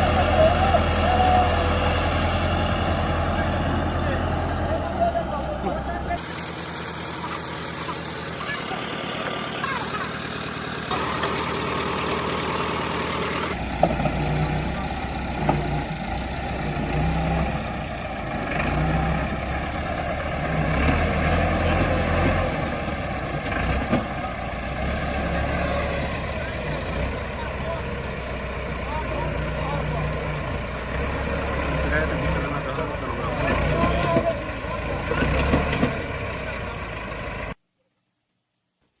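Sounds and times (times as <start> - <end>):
deep engine drone: 0.0 - 37.6
diesel tractor engines running: 0.0 - 37.6.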